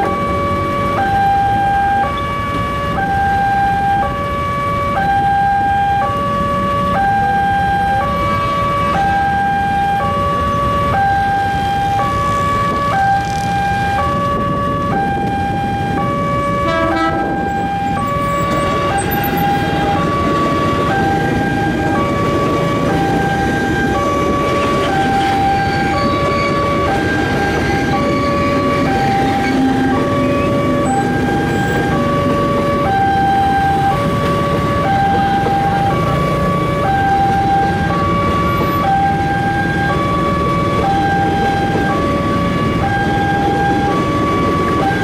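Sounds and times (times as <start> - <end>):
idling traffic rumble: 0.0 - 45.0
level crossing two-tone alarm: 0.0 - 45.0
electric train rumbling past: 5.6 - 45.0.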